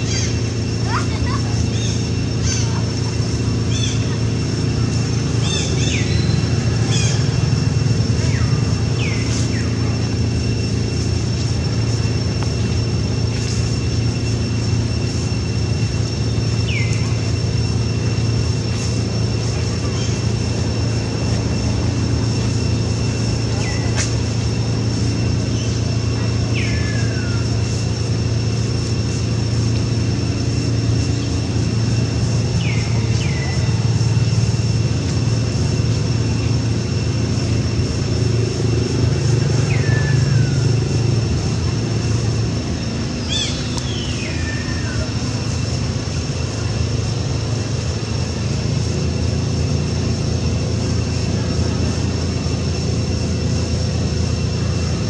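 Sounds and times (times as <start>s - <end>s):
distant engine drone: 0.0s - 55.0s
thin high whine: 0.0s - 55.0s.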